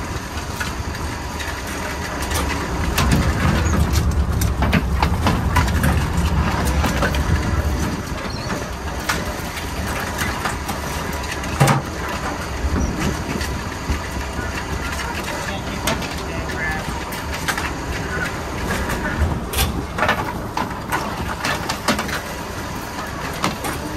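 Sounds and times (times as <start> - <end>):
boat engine running: 0.0 - 23.9.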